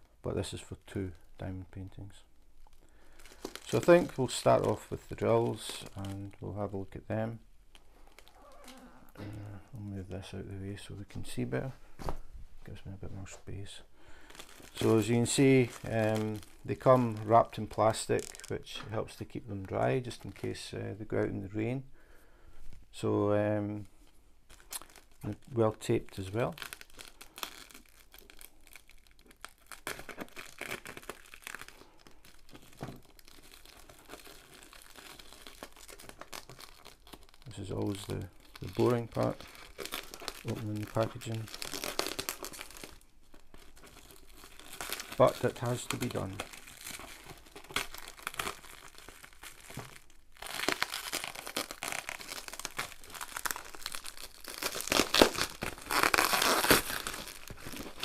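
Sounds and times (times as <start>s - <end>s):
plastic and packing tape crinkling: 2.6s - 9.2s, 14.2s - 20.8s, 24.0s - 58.0s.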